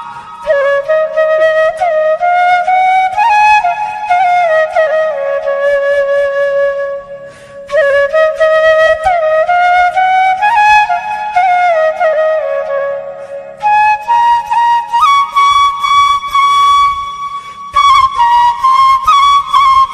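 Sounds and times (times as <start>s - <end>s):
solo flute melody: 0.0s - 19.9s.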